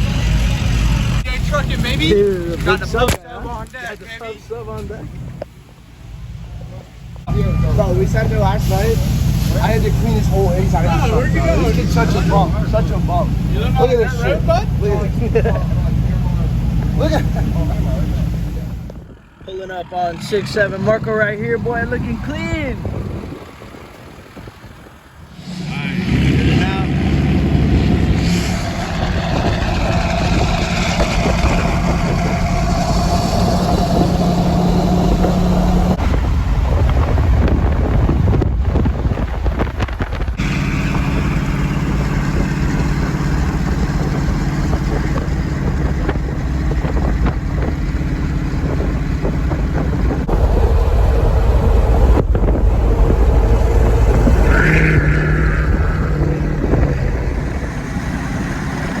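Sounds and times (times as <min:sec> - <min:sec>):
road noise: 0:00.0 - 0:59.0
vehicle engine droning: 0:00.0 - 0:59.0.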